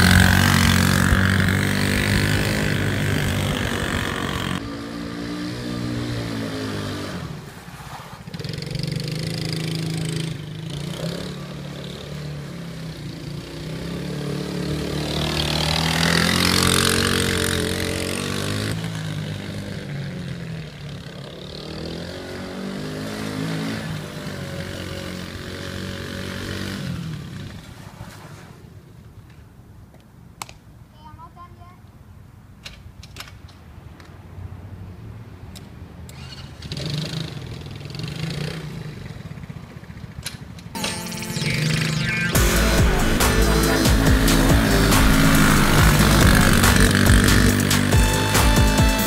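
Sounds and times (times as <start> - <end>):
atv engine revving: 0.0 - 27.8, 36.1 - 40.7, 41.4 - 49.0.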